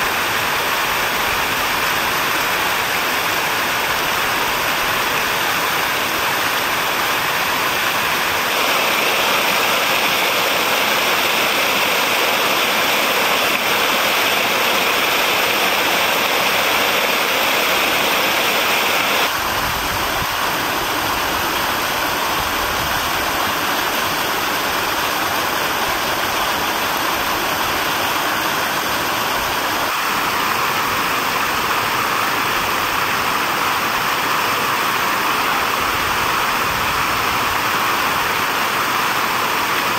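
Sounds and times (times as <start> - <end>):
fountain water rushing: 0.0 - 39.9.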